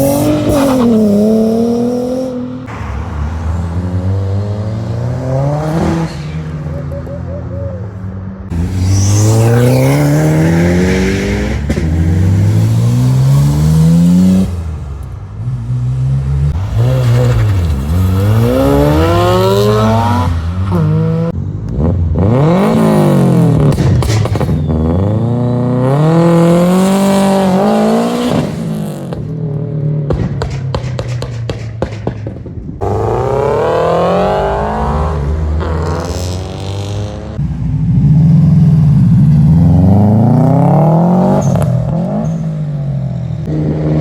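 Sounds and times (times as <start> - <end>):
car engines revving through gears: 0.0 - 31.3, 32.7 - 44.0.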